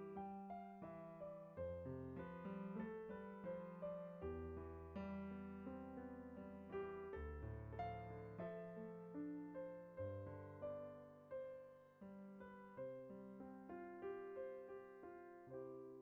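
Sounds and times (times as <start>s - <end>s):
soft slow piano melody: 0.0s - 16.0s.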